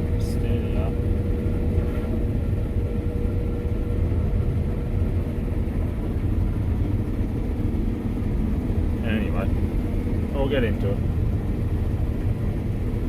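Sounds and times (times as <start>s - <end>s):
combine harvester rumble: 0.0s - 13.0s.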